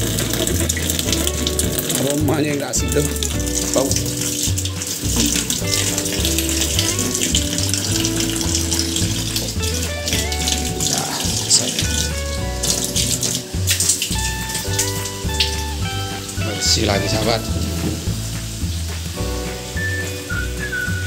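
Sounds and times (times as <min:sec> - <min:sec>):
background music with bass beat: 0:00.0 - 0:21.0
water pouring into washing machine: 0:00.0 - 0:21.0.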